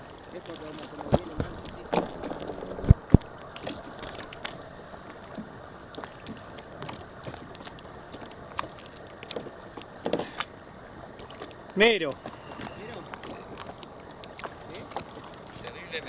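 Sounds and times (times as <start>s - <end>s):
waves lapping against kayak hull: 0.0s - 16.0s.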